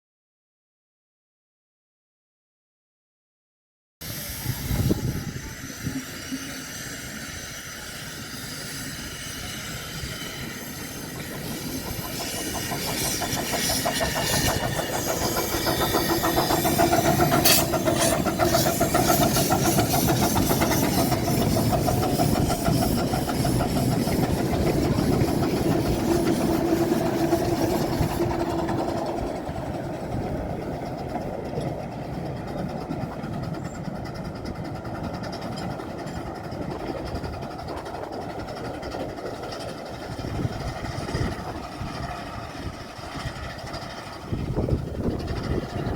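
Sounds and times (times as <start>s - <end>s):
locomotive passing: 4.0s - 45.9s.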